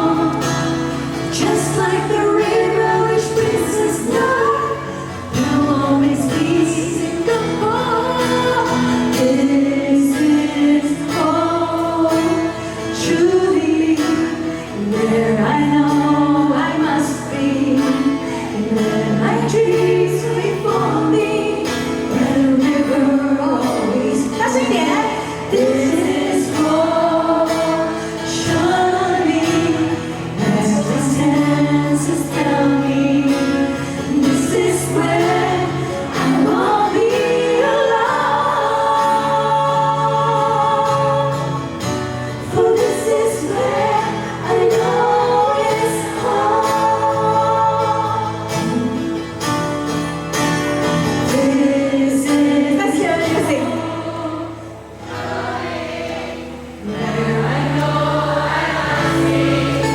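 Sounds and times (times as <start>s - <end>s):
choir singing in harmony: 0.0s - 49.4s, 50.0s - 59.9s.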